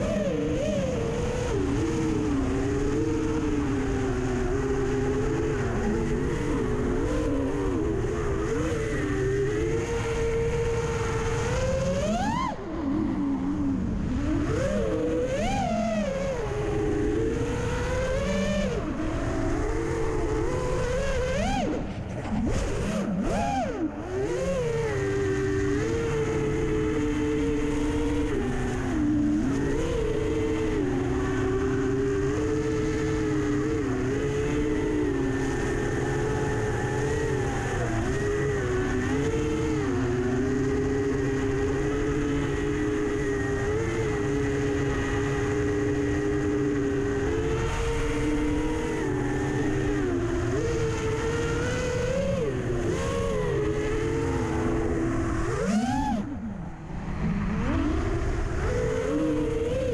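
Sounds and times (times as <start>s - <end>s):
quadcopter motors whining: 0.0s - 59.9s.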